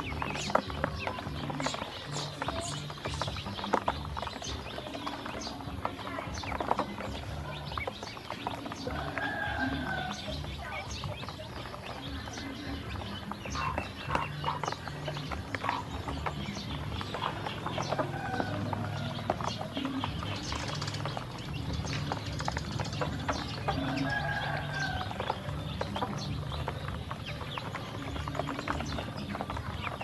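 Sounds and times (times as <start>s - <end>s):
ducklings' bills pecking: 0.0s - 30.0s.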